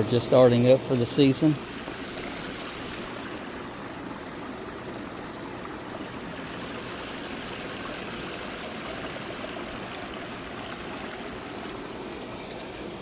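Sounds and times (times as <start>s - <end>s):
water rushing and trickling: 0.0s - 13.0s.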